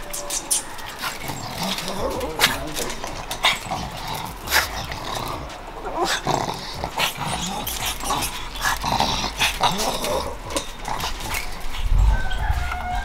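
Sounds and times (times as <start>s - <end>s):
chain clicks and rattles: 0.0s - 12.8s
dogs growling and whining: 0.0s - 13.0s.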